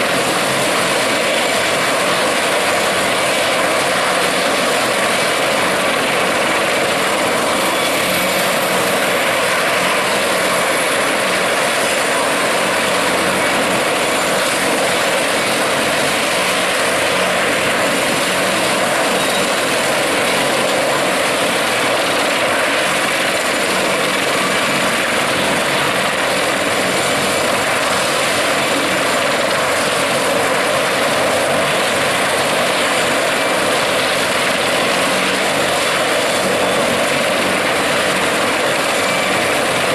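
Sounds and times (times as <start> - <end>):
helicopter engines and rotor: 0.0 - 39.9.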